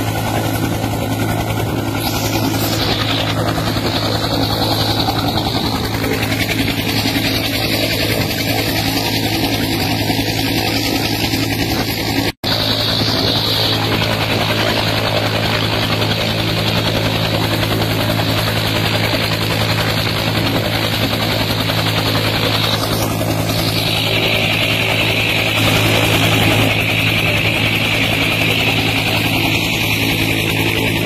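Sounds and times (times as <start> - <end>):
helicopter rotors running: 0.0 - 31.0.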